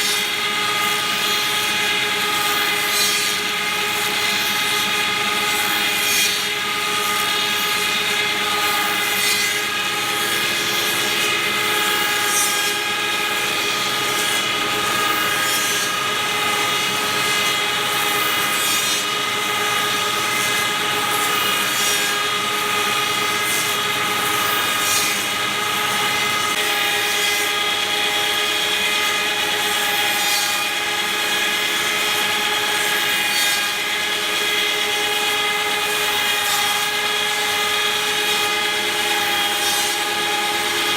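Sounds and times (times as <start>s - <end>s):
milling machine whine: 0.0s - 40.9s.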